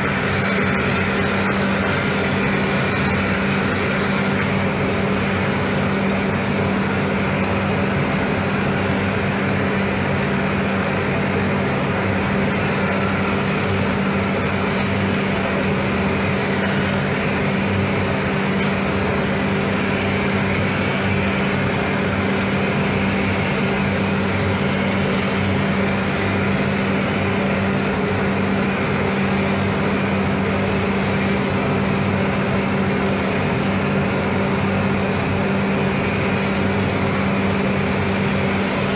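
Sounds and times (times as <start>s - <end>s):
ventilation fans droning: 0.0s - 38.9s.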